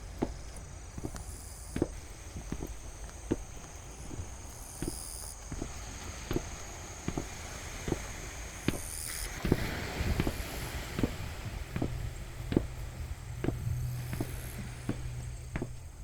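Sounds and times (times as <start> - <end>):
footsteps walking: 0.0 - 16.0
sea waves washing: 0.0 - 16.0.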